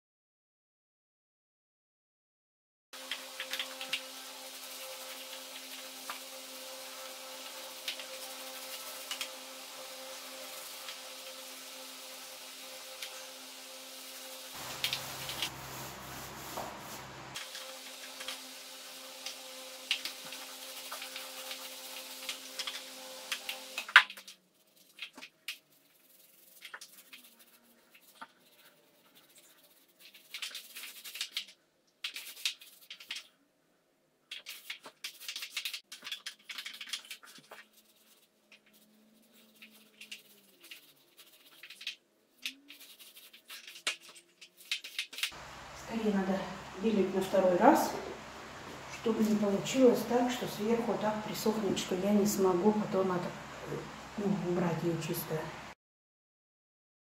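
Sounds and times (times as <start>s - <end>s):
steady hiss and hum: 3.0s - 31.5s, 34.3s - 55.8s
paint roller crackling on wall: 3.0s - 33.4s, 34.3s - 52.9s.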